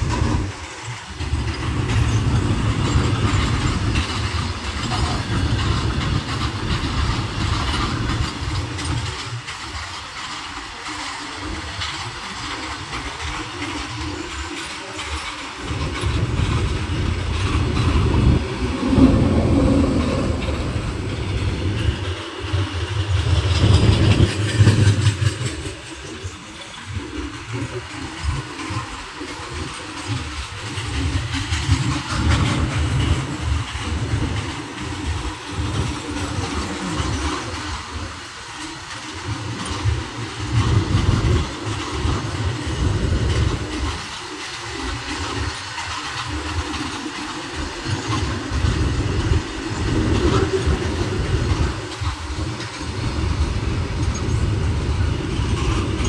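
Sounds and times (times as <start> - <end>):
freight train wagons rumbling: 0.0 - 56.0
wheel clatter over rails: 0.0 - 56.0.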